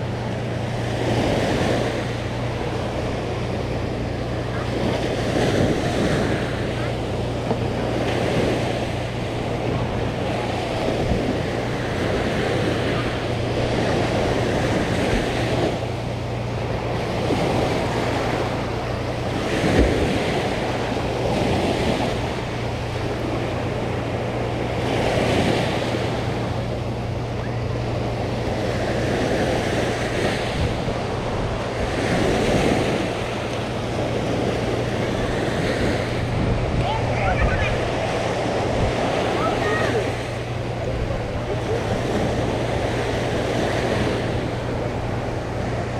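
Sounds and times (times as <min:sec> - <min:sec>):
sea waves washing onto shore: 0:00.0 - 0:45.9
wind on microphone: 0:00.0 - 0:45.9.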